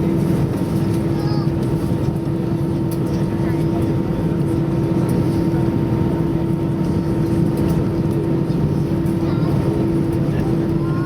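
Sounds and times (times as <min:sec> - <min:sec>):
aircraft cabin rumble: 0:00.0 - 0:11.0
constant hum: 0:00.0 - 0:11.0.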